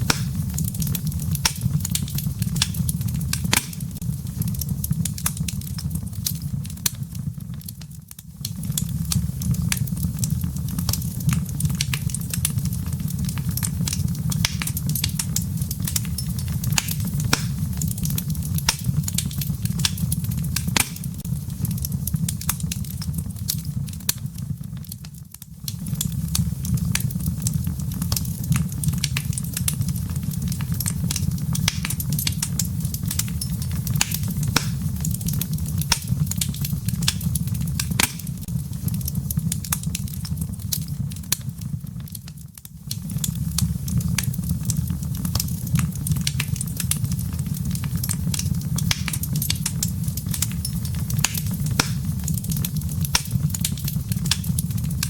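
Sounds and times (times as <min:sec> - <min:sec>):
fire low rumble: 0:00.0 - 0:55.0
wood fire crackling and popping: 0:00.0 - 0:55.0.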